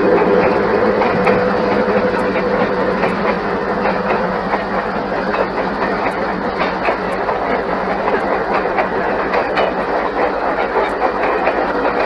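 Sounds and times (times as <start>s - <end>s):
train wheels rumbling on rail: 0.0s - 12.0s
wheels clacking over rail joints: 0.0s - 12.0s.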